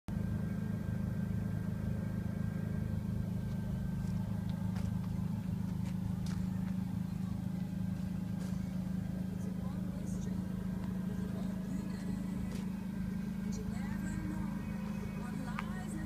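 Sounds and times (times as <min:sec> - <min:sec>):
truck engine droning: 0:00.1 - 0:16.0.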